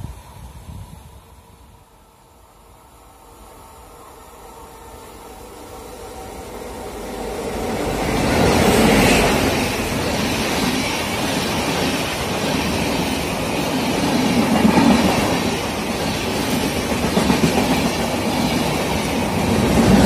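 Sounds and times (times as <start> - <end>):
passenger train clattering past: 0.0 - 20.0.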